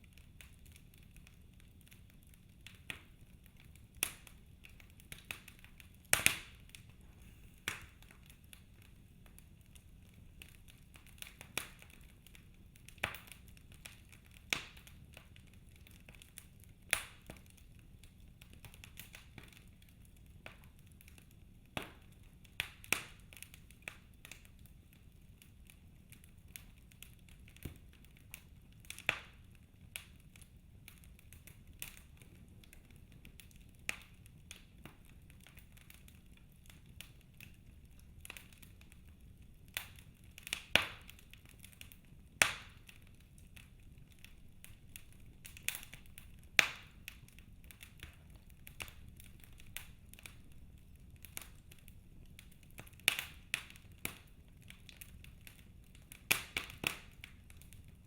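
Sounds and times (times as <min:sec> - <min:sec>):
faint steady hiss: 0:00.0 - 0:58.0
fire crackling and popping: 0:00.0 - 0:58.0.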